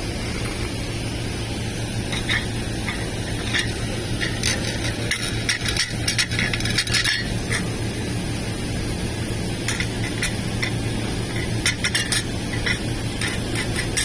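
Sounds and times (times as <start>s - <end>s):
arc welding crackling: 0.0s - 14.0s
welding machine low hum: 0.0s - 14.0s.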